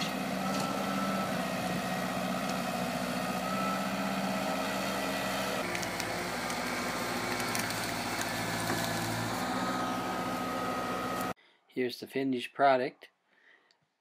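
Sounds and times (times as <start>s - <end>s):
tractor engine running: 0.0s - 11.4s.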